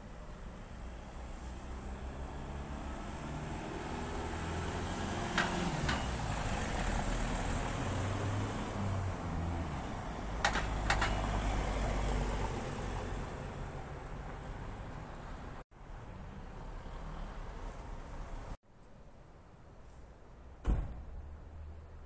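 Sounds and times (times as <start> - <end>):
vehicles driving slowly past: 0.0 - 18.6.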